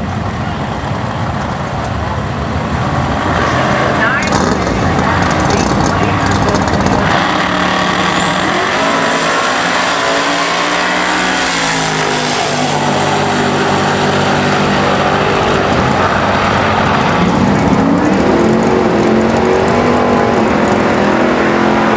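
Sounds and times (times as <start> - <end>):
racing car engine accelerating: 2.2 - 21.9.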